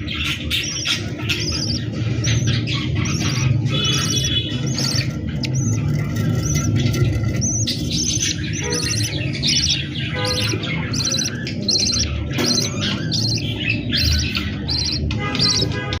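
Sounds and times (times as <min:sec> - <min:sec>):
budgerigars chirping and squawking: 0:00.0 - 0:16.0.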